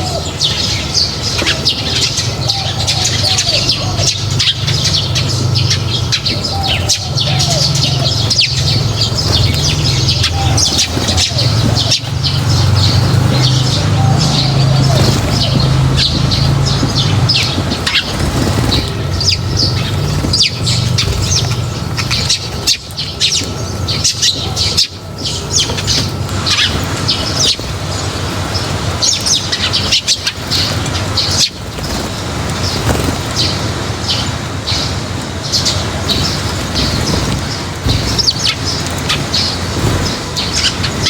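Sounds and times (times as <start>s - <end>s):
small birds chirping: 0.0s - 41.0s
low steady rumble: 0.5s - 33.6s.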